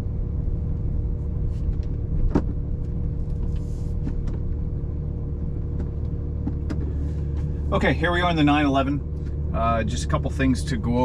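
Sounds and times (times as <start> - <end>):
car engine idling: 0.0 - 11.0
faint whine: 0.0 - 11.0.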